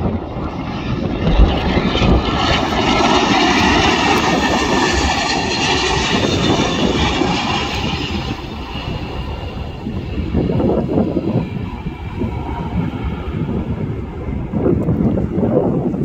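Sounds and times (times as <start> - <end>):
jet engines rushing with whine: 0.0 - 16.0.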